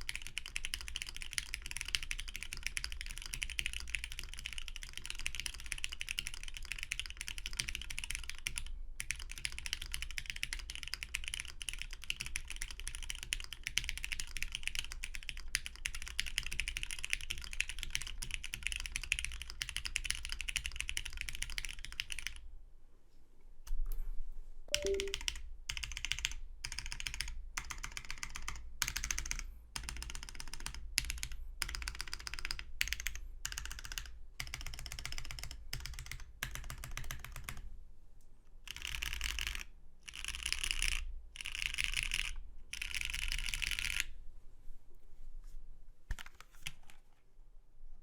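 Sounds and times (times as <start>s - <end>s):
fast mechanical keyboard typing: 0.0s - 22.4s, 24.7s - 37.6s, 38.7s - 44.0s.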